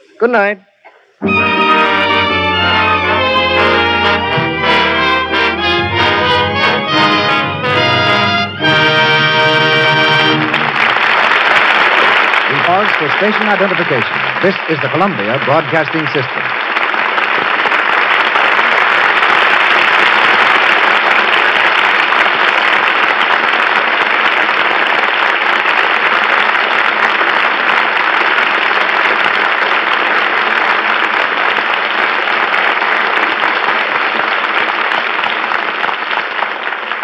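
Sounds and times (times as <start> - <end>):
audience applauding: 1.2 - 37.0.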